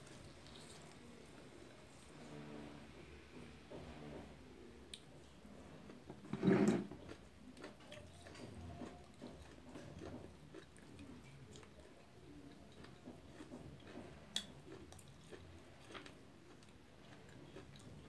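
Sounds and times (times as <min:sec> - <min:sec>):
chewing food: 0:00.0 - 0:02.3, 0:04.9 - 0:18.0.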